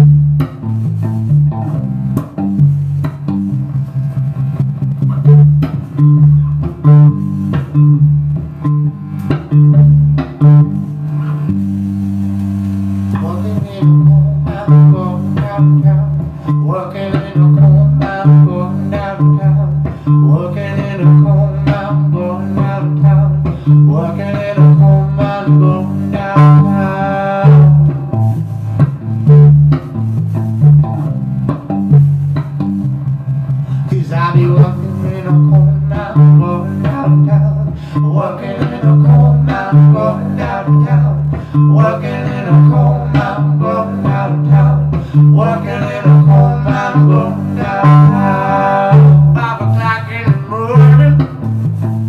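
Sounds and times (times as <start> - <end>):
bass guitar: 0.0 - 52.0
guitar: 0.0 - 52.0
pulsing bass rhythm: 0.0 - 52.0.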